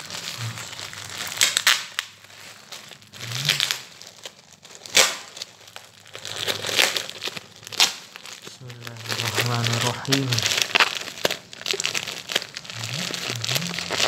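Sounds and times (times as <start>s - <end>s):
plastic mailer crinkling: 0.0s - 14.0s.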